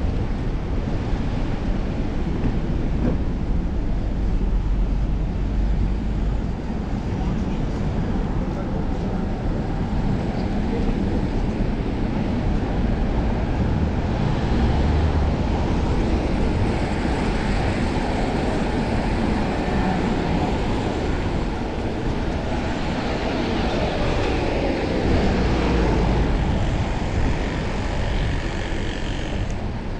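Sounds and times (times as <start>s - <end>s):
street traffic: 0.0s - 29.9s
wind rushing over microphone: 0.0s - 29.9s.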